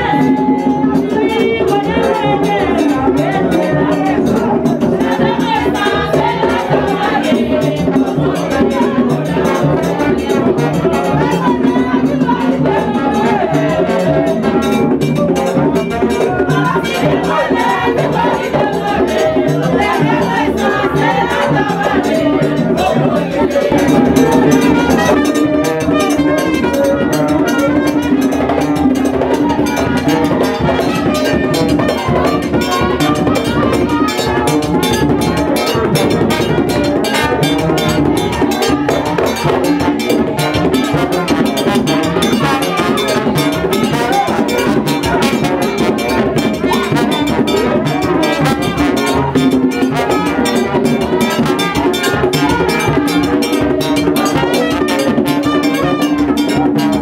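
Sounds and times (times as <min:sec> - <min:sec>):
hand drums playing fast rhythm: 0:00.0 - 0:57.0.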